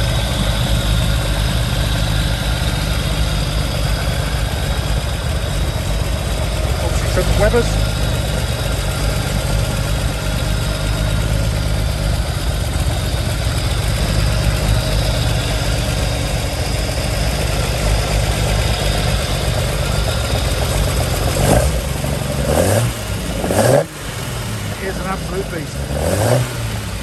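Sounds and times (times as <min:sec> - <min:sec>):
race car engine idling: 0:00.0 - 0:27.0.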